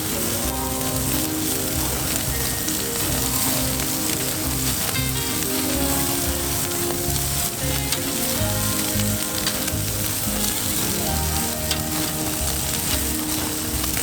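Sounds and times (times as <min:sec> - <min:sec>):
background music: 0:00.0 - 0:14.0
burgers sizzling over campfire: 0:00.0 - 0:14.0.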